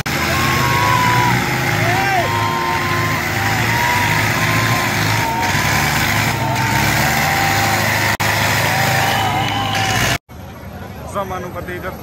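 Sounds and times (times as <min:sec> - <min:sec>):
diesel tractor engines droning: 0:00.0 - 0:12.0.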